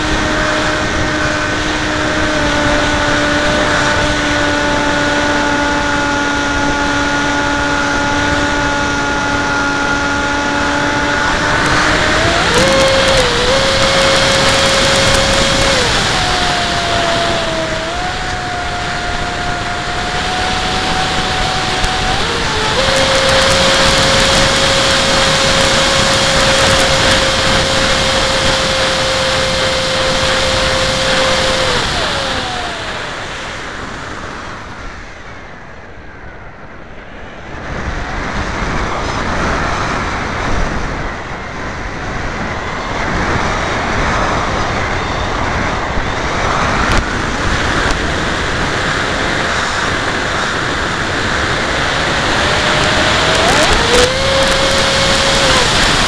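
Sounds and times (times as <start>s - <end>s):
electric motor whine: 0.0s - 34.9s, 40.4s - 56.0s
wind rushing over microphone: 0.0s - 56.0s.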